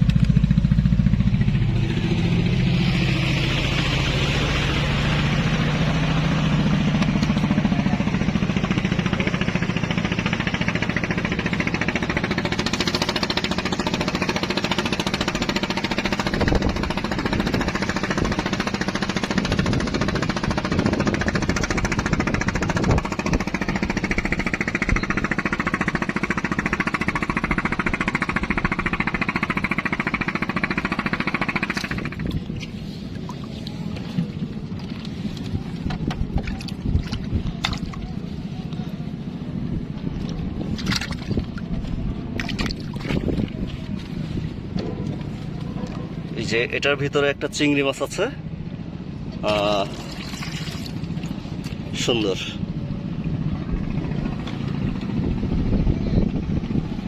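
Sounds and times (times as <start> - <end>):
boat engine knocking: 0.0 - 57.0.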